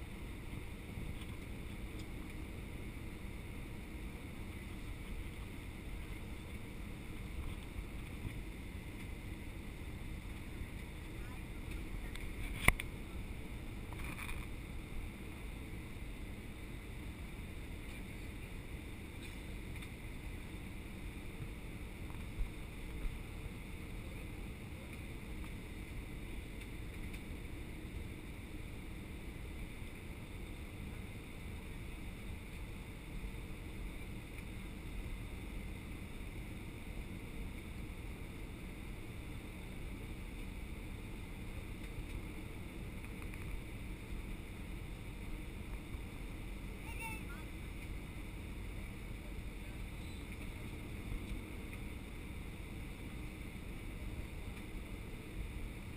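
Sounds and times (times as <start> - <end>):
airflow and jet engine rush: 0.0 - 55.9
steady high hum: 0.0 - 55.9.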